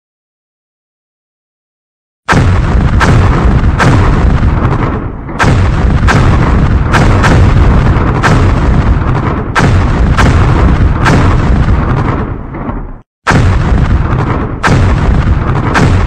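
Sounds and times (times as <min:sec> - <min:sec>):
heavy explosive booms: 0:02.3 - 0:16.0
deep rumble: 0:02.4 - 0:16.0.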